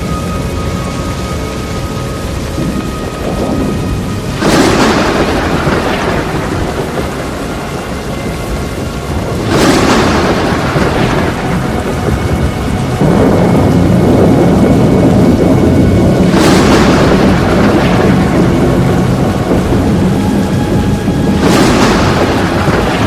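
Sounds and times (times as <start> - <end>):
heavy rain: 0.0 - 23.0
thunder cracks rumbling: 0.0 - 23.0.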